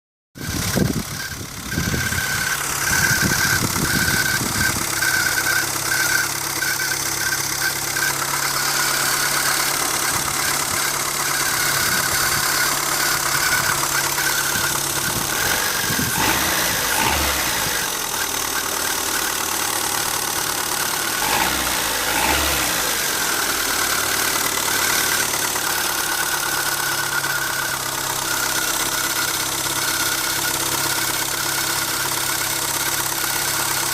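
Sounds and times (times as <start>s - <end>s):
high squeaking whine: 0.4s - 33.5s
car engine idling: 0.4s - 33.9s.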